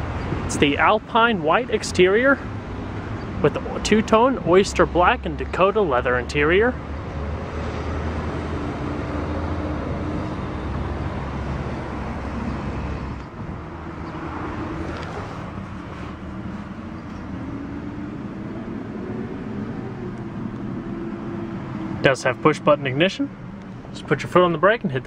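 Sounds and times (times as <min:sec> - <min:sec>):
traffic engine rumble: 0:00.0 - 0:25.0.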